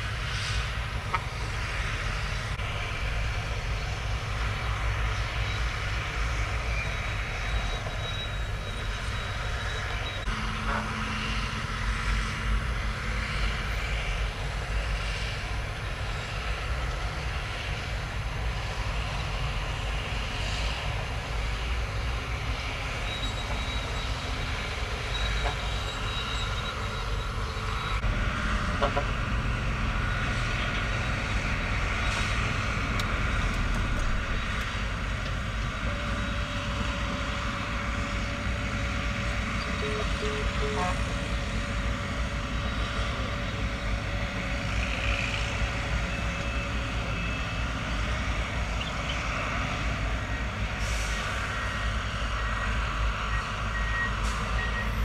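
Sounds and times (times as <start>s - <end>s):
heavy diesel machinery rumbling: 0.0s - 55.0s.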